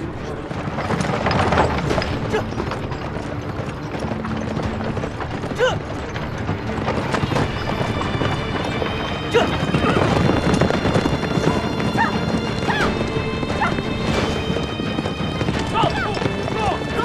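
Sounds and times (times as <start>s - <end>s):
dramatic background music: 0.0s - 17.0s
horse hooves galloping: 0.0s - 17.0s.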